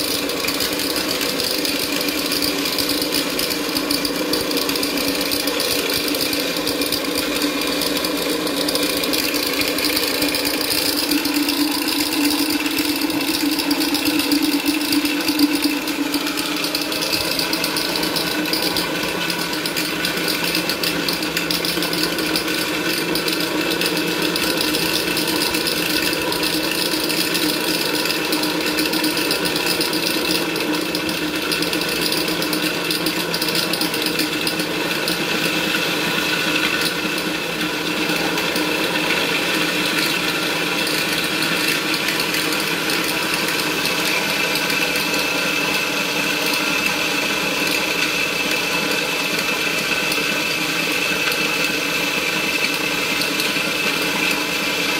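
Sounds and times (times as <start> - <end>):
electric grinder grinding grain: 0.0 - 54.9.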